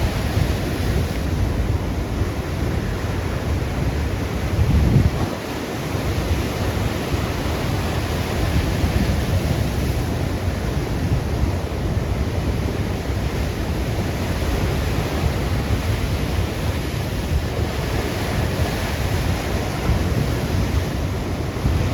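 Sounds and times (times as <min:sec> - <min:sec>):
ocean surf breaking on beach: 0:00.0 - 0:21.9
wind buffeting microphone: 0:00.0 - 0:21.9.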